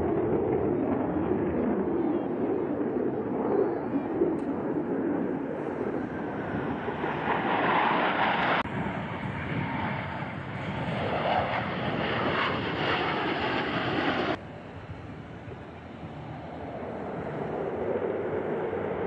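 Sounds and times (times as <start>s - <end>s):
jet engines flying past: 0.0s - 19.0s.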